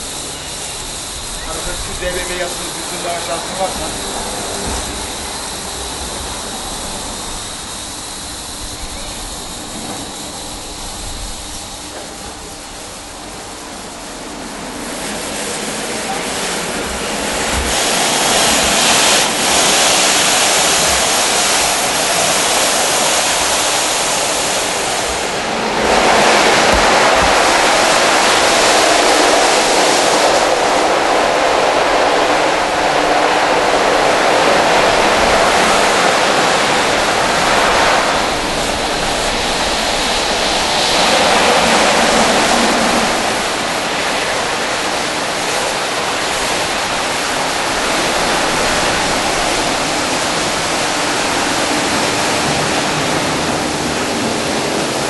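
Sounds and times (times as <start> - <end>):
car wash machinery rushing hiss: 0.0 - 55.0.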